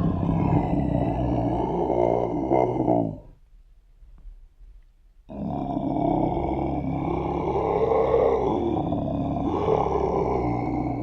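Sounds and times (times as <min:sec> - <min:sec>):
deep monster growl: 0:00.0 - 0:03.4, 0:05.3 - 0:11.0.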